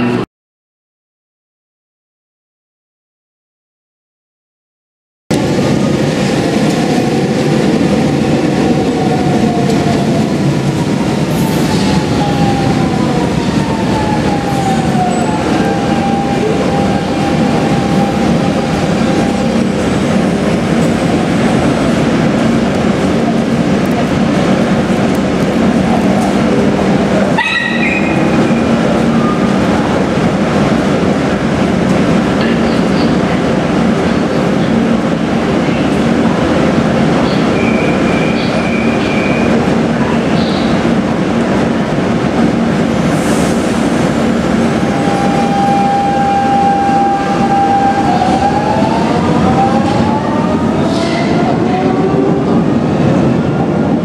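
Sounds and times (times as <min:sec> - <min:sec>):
train rumbling at platform: 0:00.0 - 0:00.3, 0:05.3 - 0:54.0.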